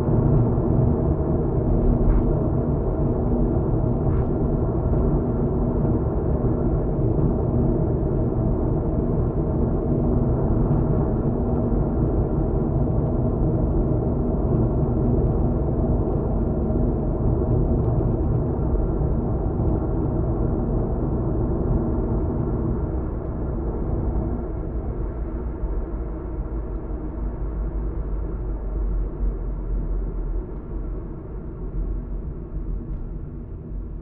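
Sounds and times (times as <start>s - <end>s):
faint constant hum: 0.0s - 34.0s.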